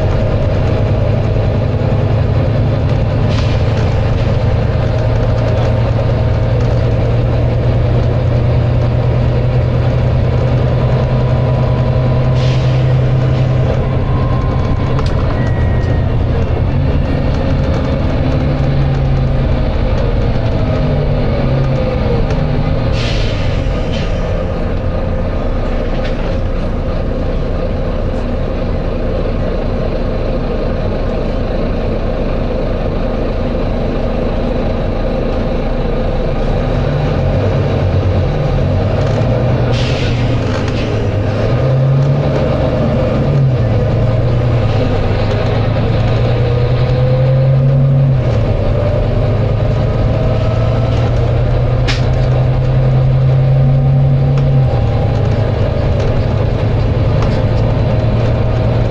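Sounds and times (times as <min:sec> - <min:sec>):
bus diesel engine running: 0:00.0 - 0:58.9
drivetrain whine: 0:00.0 - 0:58.9.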